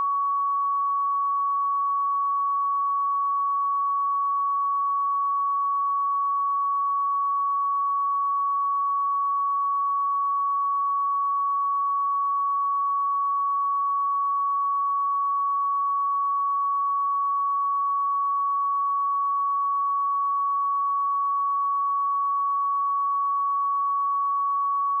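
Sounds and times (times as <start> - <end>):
sine wave test tone: 0.0 - 25.0.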